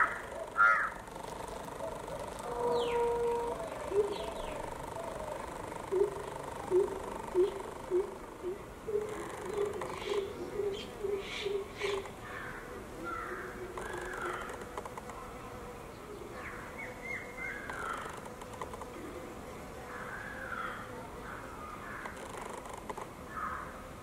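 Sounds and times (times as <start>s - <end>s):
birds calling: 0.0s - 22.7s.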